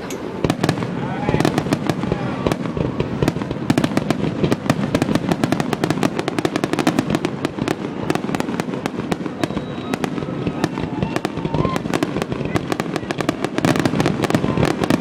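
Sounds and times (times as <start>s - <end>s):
fireworks rapid barrage of bangs: 0.0s - 15.0s.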